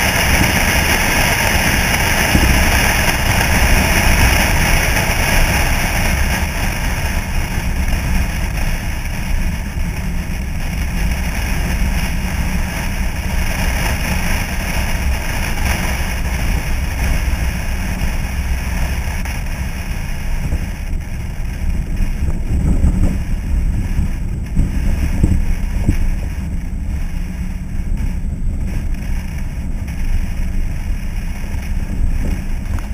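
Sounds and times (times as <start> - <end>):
truck engine running: 0.0 - 32.9
wind rumbling on camera: 0.0 - 32.9.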